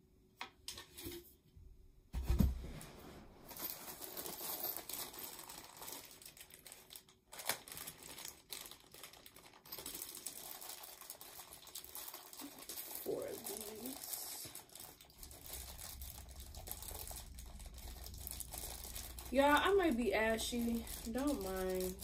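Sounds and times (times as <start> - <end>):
plastic bag crinkling: 3.5 - 22.0.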